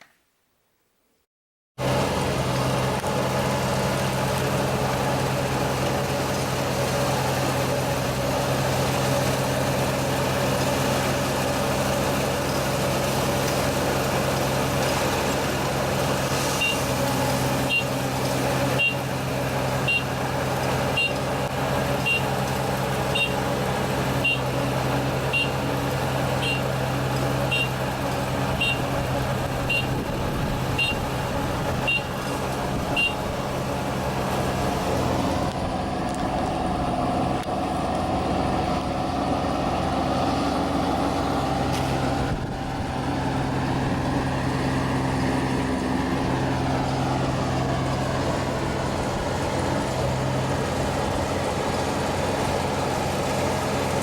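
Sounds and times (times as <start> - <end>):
combine harvester engine hum: 1.8 - 54.0.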